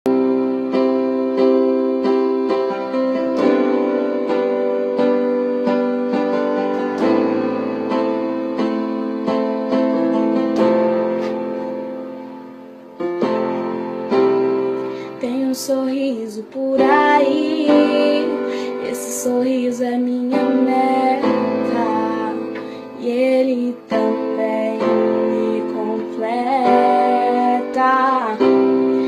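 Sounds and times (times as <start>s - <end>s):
piano playing repeated chords: 0.0s - 29.0s.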